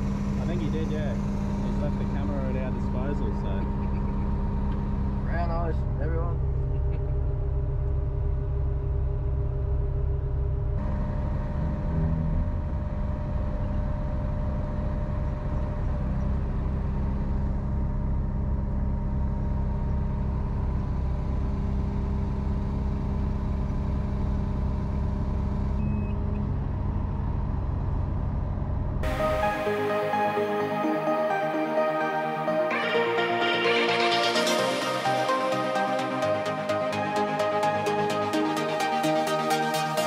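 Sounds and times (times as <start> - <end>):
crane diesel engine and hydraulics: 0.0 - 40.0.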